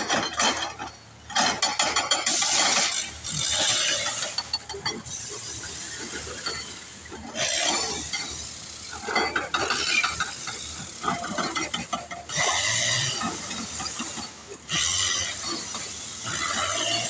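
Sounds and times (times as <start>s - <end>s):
drilling rig mechanical clatter: 0.0s - 17.0s.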